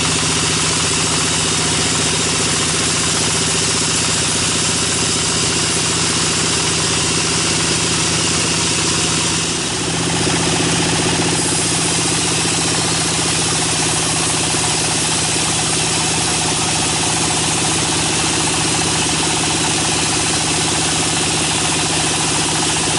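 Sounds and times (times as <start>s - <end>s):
band saw cutting log: 0.0s - 22.9s.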